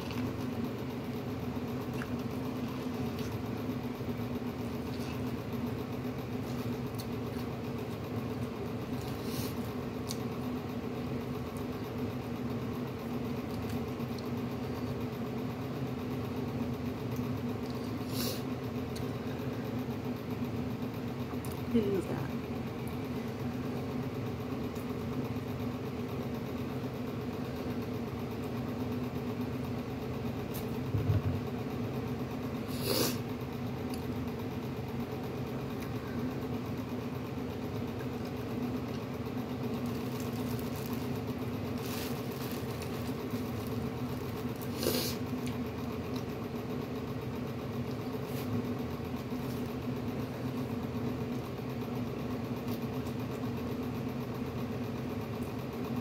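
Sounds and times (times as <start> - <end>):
mechanical motor hum: 0.0 - 56.0.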